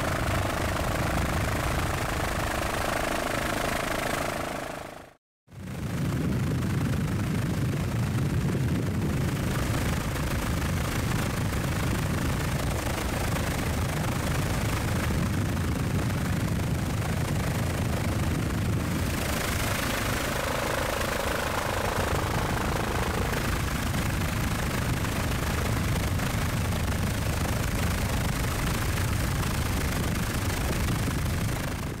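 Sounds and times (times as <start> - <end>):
helicopter engine and rotor drone: 0.0 - 32.0.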